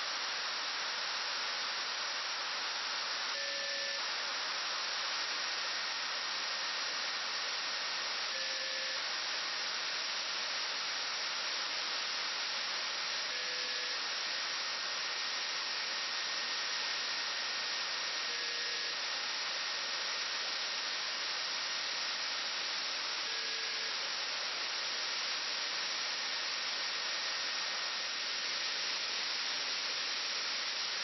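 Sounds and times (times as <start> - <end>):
radio hiss: 0.0 - 31.0.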